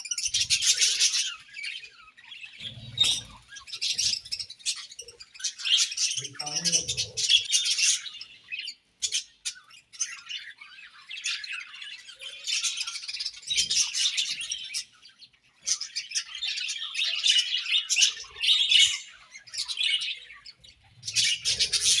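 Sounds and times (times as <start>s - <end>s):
budgerigars chirping and chattering: 0.0s - 22.0s.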